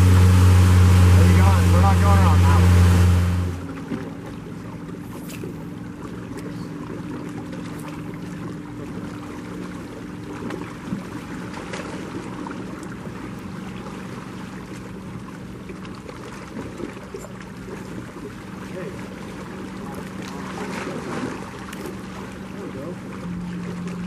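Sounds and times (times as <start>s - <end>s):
boat motor humming: 0.0s - 24.0s
water wash: 0.0s - 24.0s
wind: 0.0s - 24.0s.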